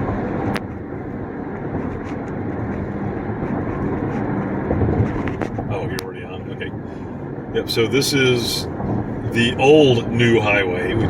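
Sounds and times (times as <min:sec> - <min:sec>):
car road noise at highway speed: 0:00.0 - 0:11.0.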